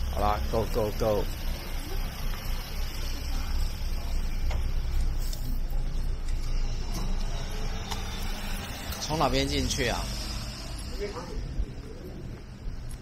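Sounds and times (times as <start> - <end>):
street ambience rumble and hiss: 0.0 - 13.0.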